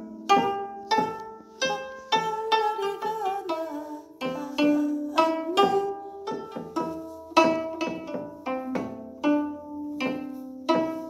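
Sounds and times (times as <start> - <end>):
plucked zither melody: 0.0 - 11.0.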